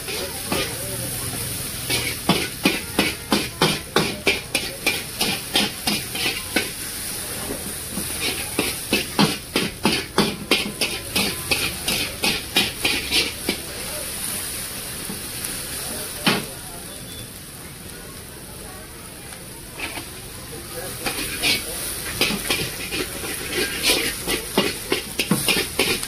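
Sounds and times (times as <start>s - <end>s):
metal spatula scraping wok: 0.0s - 16.5s, 19.8s - 20.2s, 20.8s - 26.0s
food sizzling: 0.0s - 26.0s.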